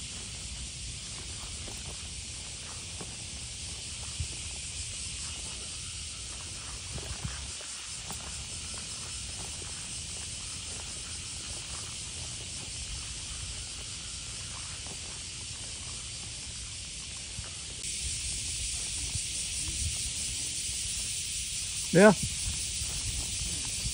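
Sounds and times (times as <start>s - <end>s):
outdoor background hiss: 0.0s - 23.9s.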